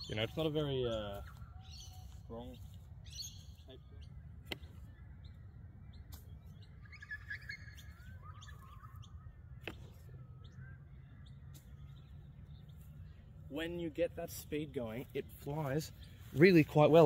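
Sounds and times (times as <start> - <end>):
birds chirping and calling: 0.0 - 17.0
low outdoor rumble: 0.0 - 17.0.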